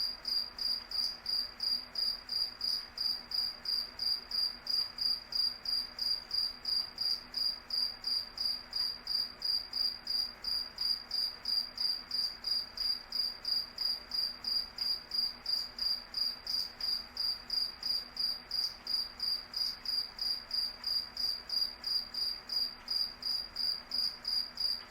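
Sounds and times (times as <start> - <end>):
crickets chirping: 0.0 - 24.8.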